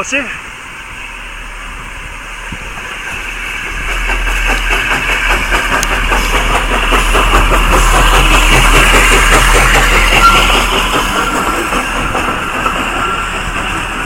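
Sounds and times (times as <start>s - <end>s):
locomotive engine beating: 0.0s - 14.0s.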